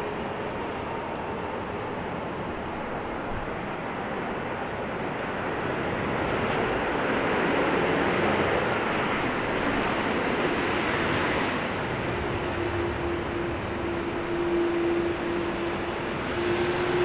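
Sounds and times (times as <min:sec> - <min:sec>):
jet engine rushing: 0:00.0 - 0:17.0.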